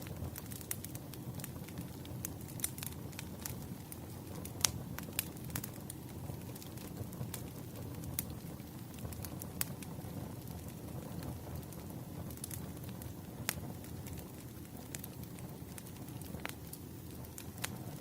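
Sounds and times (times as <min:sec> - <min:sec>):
logs crackling and popping: 0:00.0 - 0:18.0
low fire rumble: 0:00.0 - 0:18.0.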